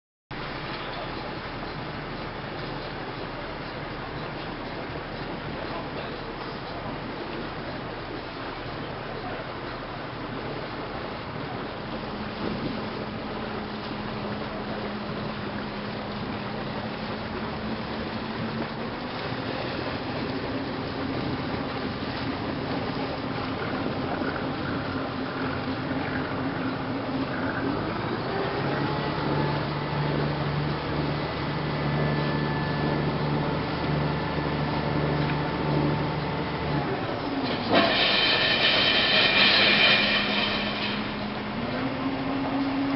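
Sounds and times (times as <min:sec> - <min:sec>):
sea water rushing: 0:00.3 - 0:42.9
low motor hum: 0:00.4 - 0:42.9.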